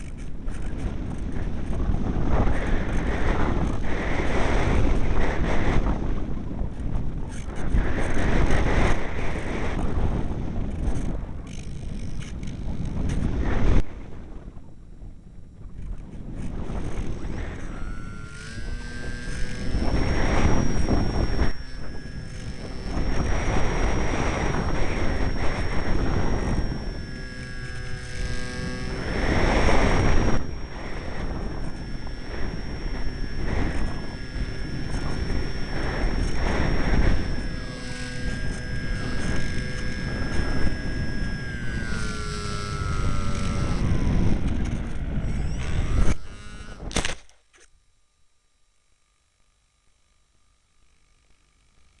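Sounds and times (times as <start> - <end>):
wind buffeting microphone: 0.0 - 46.9
motor-like whine: 0.0 - 52.0.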